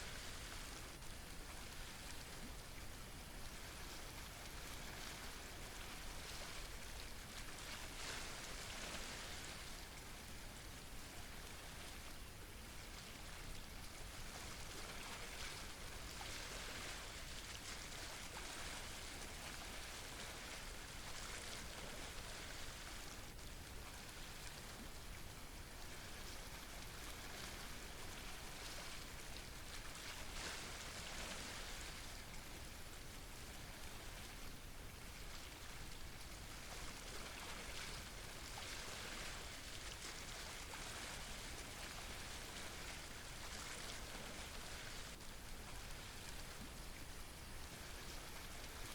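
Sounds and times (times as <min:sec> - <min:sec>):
faint hiss of water: 0:00.0 - 0:48.9.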